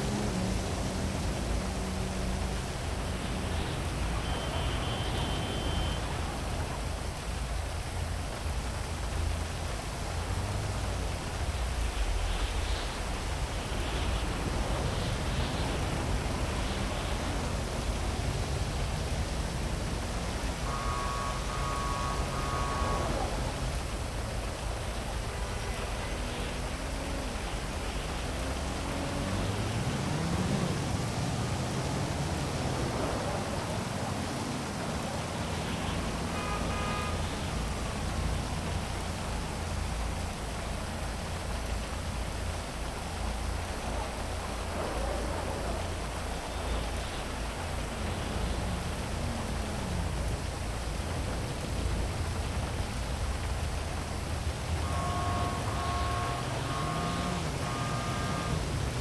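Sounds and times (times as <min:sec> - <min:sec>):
heavy rain: 0:00.0 - 0:59.0
vehicles passing: 0:00.0 - 0:59.0.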